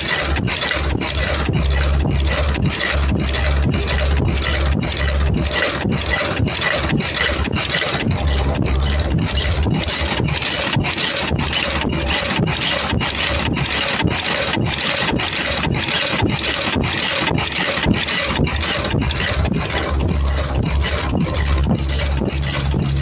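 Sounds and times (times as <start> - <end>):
welding machine clattering and hissing: 0.0 - 23.0.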